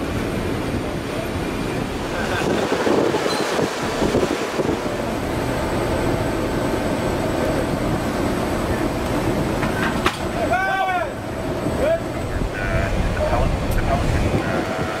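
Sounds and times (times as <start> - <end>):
wind buffeting microphone: 0.0 - 10.5, 11.1 - 15.0
wind and sea rushing: 0.0 - 15.0.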